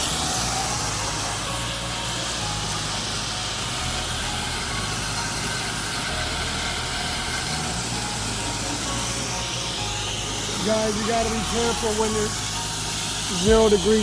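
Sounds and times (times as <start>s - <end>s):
high-pressure water spray hissing: 0.0s - 14.0s
pressure washer engine: 0.0s - 14.0s.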